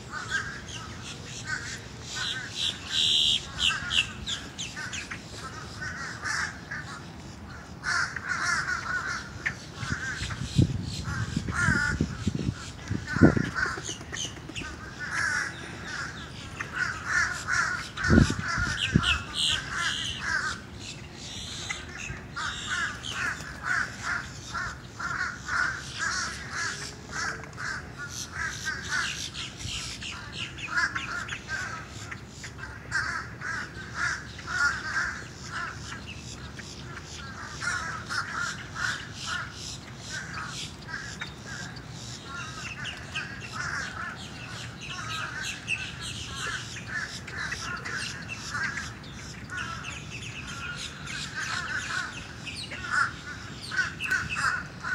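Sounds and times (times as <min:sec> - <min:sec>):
chorus of bird calls: 0:00.0 - 0:54.9.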